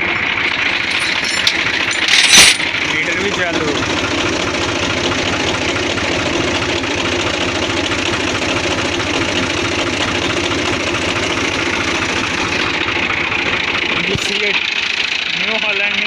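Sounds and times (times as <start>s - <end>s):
diesel tractor engine idling: 0.0s - 0.9s, 2.6s - 16.0s.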